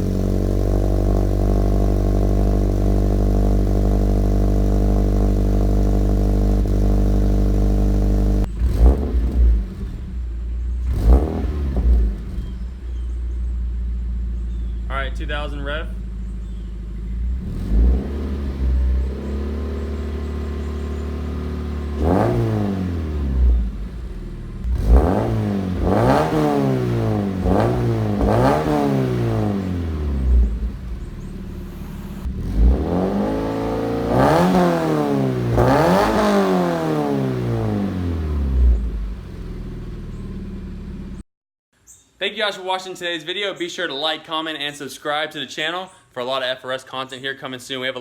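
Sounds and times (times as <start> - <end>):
car engine idling and revving: 0.0 - 41.2.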